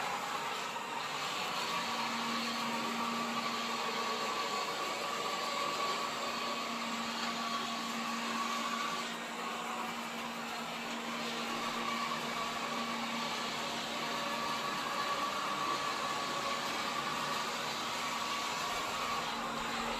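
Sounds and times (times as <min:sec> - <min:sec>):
robot vacuum cleaner whirring: 0:00.0 - 0:19.9.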